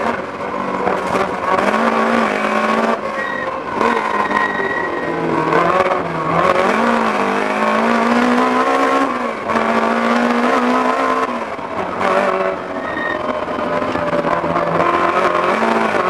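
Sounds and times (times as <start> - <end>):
rally car engine revving high: 0.0 - 16.0.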